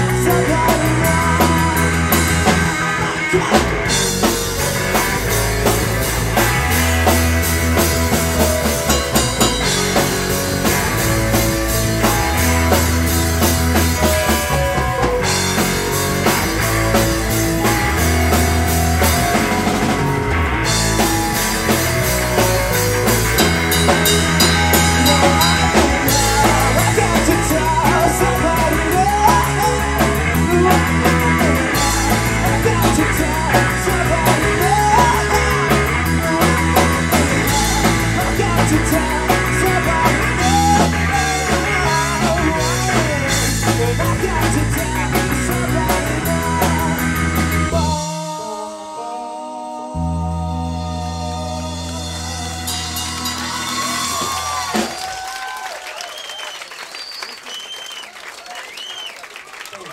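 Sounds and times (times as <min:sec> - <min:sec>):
person singing: 0:00.0 - 0:07.2, 0:07.8 - 0:55.0
drum kit beat: 0:00.0 - 0:48.4, 0:50.9 - 0:55.4
guitar: 0:00.0 - 0:55.4.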